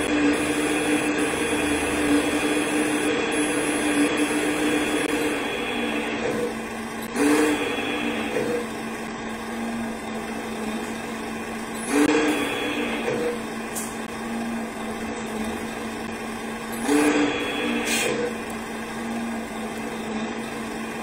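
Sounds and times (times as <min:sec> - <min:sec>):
winch mechanical hum: 0:00.0 - 0:21.0.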